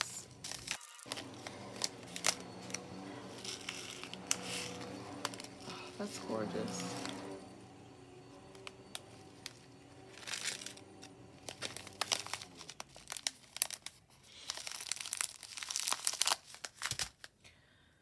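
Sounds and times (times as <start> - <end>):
plastic pouch crinkling: 0.0 - 7.8, 8.4 - 17.4.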